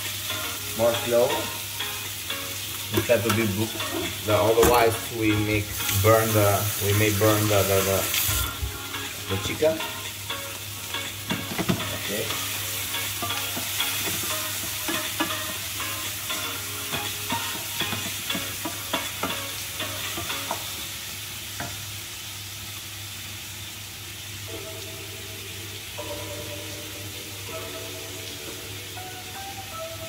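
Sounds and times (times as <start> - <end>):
chicken sizzling in a frying pan: 0.0 - 30.0.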